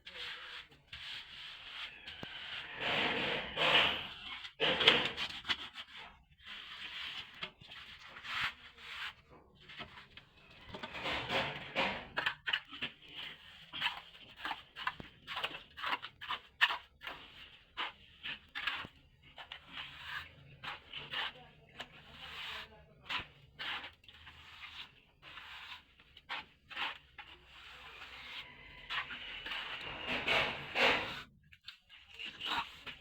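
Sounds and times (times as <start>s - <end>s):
plastering tool scraping wall: 0.0s - 33.0s.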